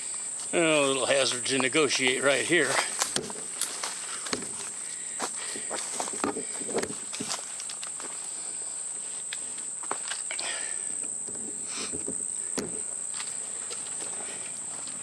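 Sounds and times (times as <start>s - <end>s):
footsteps on a trail: 0.0s - 15.0s
high-pitched insect trill: 0.0s - 15.0s.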